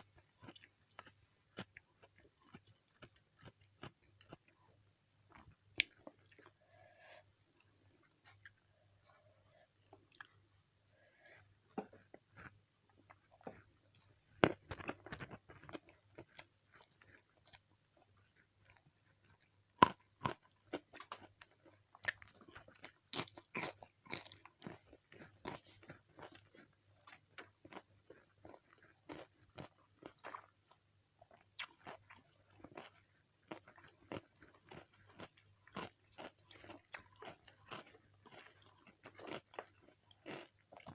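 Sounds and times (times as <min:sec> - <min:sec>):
crunching and chewing food: 0:00.0 - 0:40.9.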